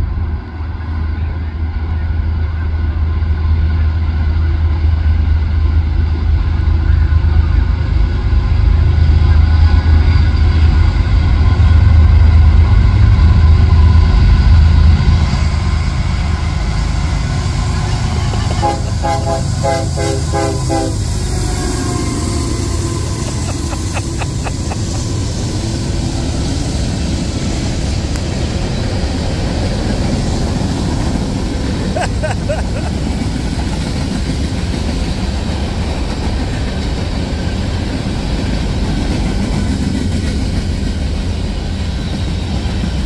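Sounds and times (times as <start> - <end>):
diesel locomotive drone: 0.0 - 43.0
train cars rumbling: 4.4 - 43.0.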